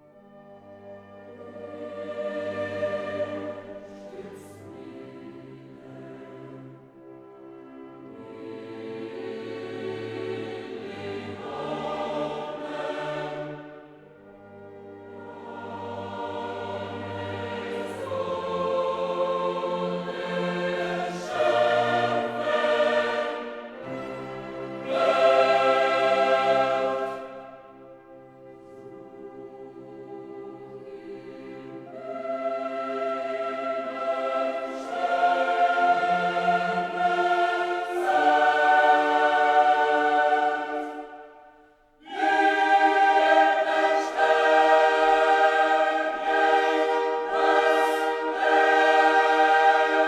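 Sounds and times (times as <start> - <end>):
choir singing sustained chords: 0.0 - 50.0
orchestral accompaniment: 0.0 - 50.0.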